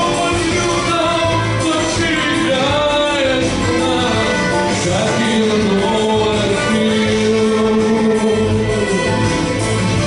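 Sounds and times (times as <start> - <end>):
man singing into a microphone: 0.0 - 9.4
instrumental backing track: 0.0 - 10.0.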